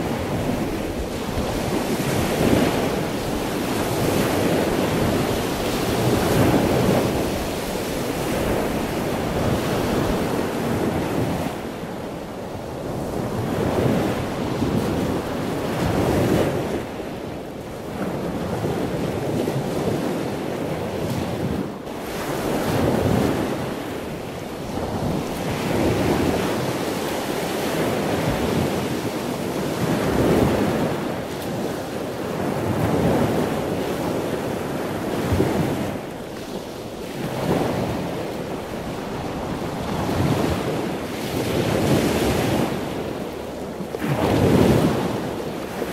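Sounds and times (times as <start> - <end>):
sea waves breaking on shore: 0.0 - 45.9
wind buffeting microphone: 0.0 - 45.9.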